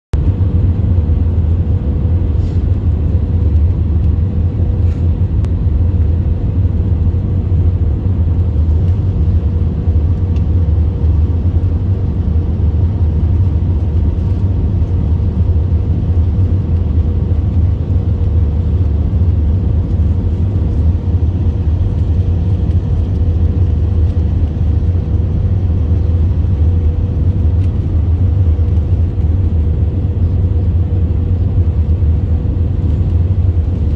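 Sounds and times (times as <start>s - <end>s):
airliner cabin engine roar: 0.1s - 33.9s.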